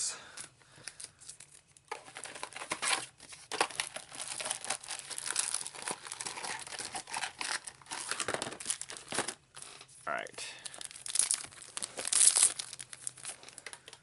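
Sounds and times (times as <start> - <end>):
foil wrappers tearing and crinkling: 0.9 - 9.8, 10.6 - 14.0.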